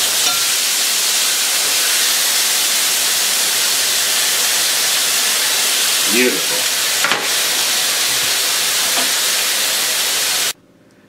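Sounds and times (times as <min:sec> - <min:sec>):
food sizzling in a frying pan: 0:00.0 - 0:10.6.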